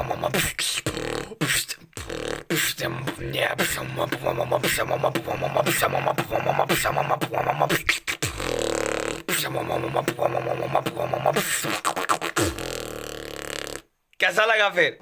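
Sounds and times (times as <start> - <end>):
person beatboxing: 0.0 - 13.9.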